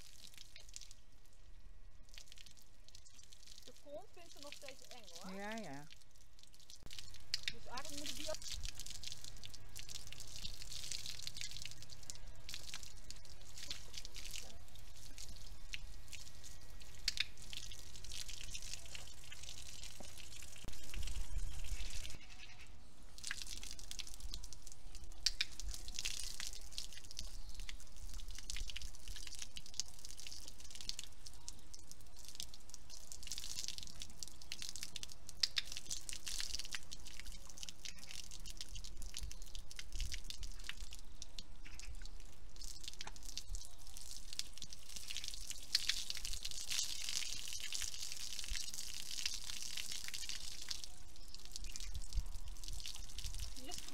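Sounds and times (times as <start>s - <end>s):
water splashing on wet paving: 0.0s - 1.2s, 2.0s - 22.2s, 23.1s - 53.9s
garden hose spraying water: 2.0s - 22.2s, 23.1s - 53.9s.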